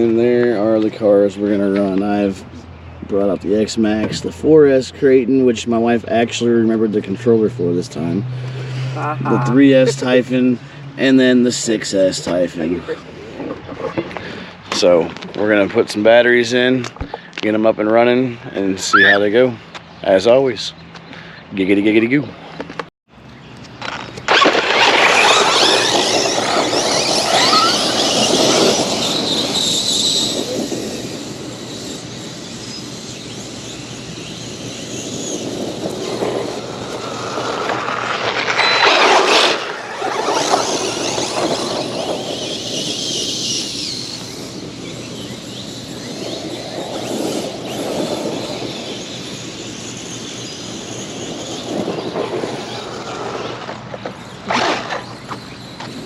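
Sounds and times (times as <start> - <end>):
electric rc cars driving: 0.0 - 21.0, 23.2 - 56.0.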